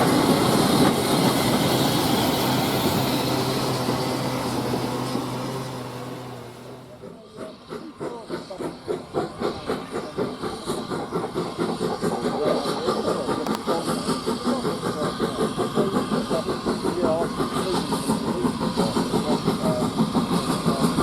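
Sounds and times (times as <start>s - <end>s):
steam hiss: 0.0s - 21.0s
steam locomotive exhaust beats: 0.0s - 21.0s.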